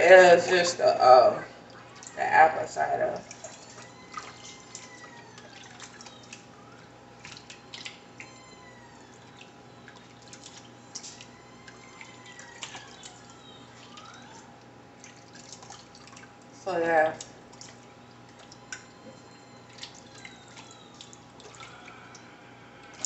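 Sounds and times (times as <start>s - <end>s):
liquid dripping and splashing: 1.5s - 2.2s, 3.0s - 22.3s.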